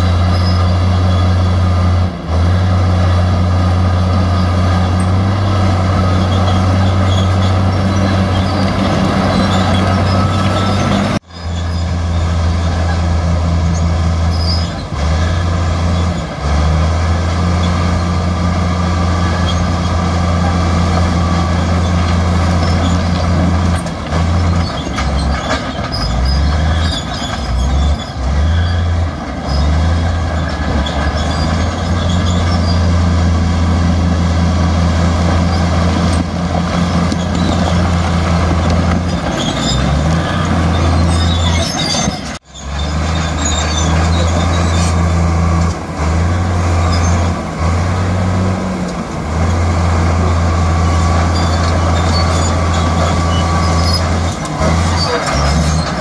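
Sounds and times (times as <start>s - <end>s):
heavy diesel machinery engine: 0.0s - 56.0s.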